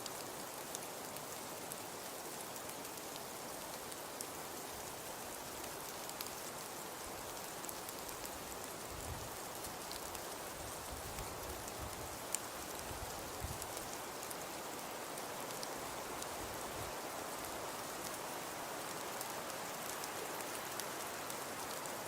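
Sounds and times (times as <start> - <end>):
wood fire crackling: 1.8 - 22.0.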